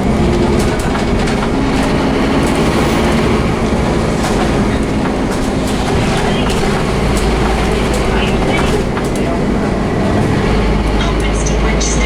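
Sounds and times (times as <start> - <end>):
bus diesel engine drone: 0.0 - 12.0
rattles and clatter: 0.0 - 12.0.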